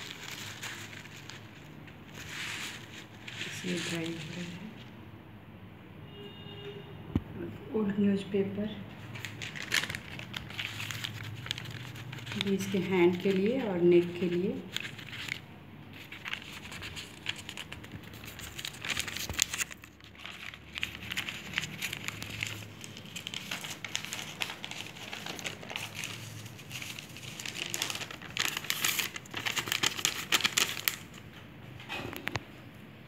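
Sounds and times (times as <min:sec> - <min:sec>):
newspaper being crumpled: 0:00.0 - 0:04.9, 0:08.9 - 0:31.4.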